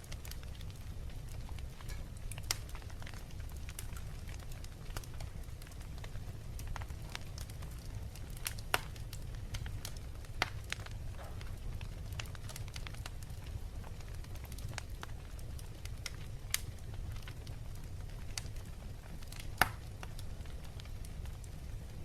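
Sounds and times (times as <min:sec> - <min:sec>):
wood fire crackling: 0:00.0 - 0:22.0
sharp pops of fire: 0:00.1 - 0:05.8, 0:06.7 - 0:17.4, 0:18.2 - 0:20.9.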